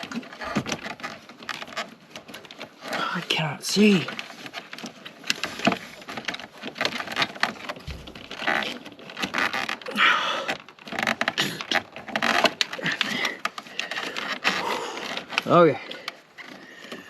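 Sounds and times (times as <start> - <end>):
plastic hose scraping and rustling: 0.0 - 17.0.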